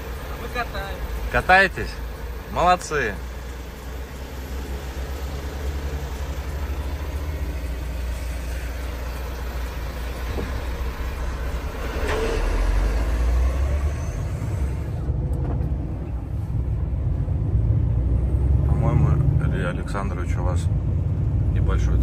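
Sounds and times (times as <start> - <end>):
heavy truck driving: 0.0 - 22.0.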